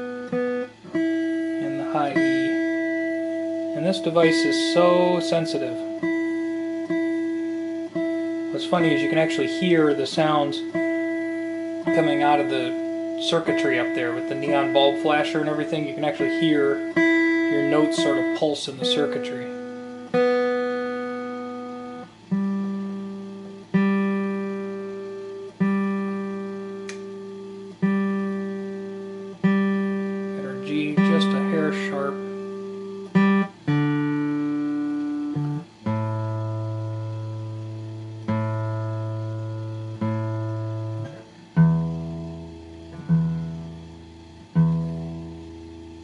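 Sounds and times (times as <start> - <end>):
guitar strings plucked: 0.0 - 46.0.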